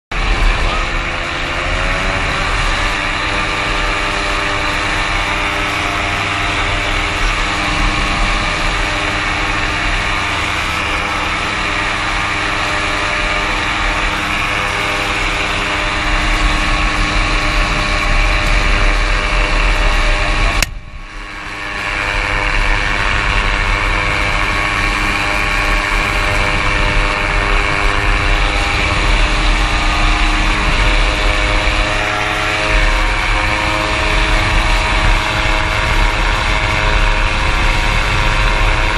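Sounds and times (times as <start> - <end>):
small engine running: 0.1 - 38.9.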